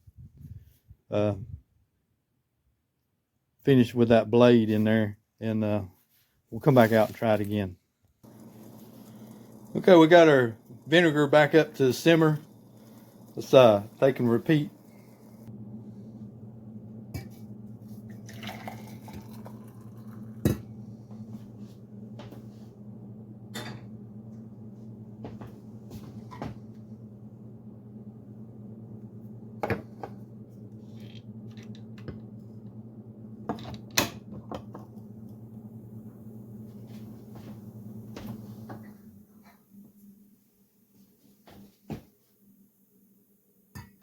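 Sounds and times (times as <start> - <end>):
low electrical hum: 6.6 - 43.7.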